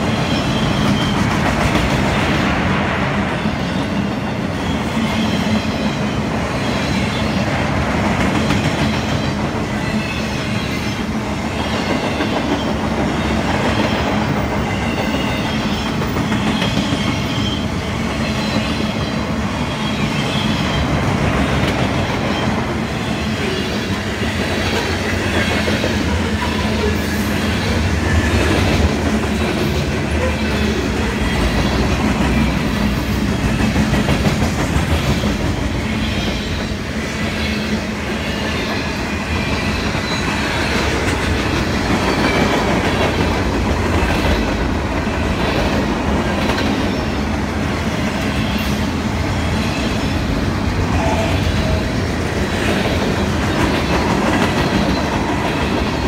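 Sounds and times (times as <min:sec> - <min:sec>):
steel wheels rolling on rail: 0:00.0 - 0:56.0.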